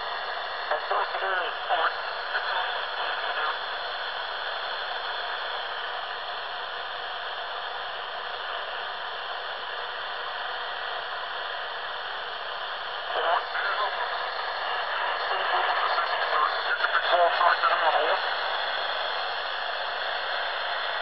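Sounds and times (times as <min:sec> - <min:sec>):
shortwave static hiss: 0:00.0 - 0:21.0.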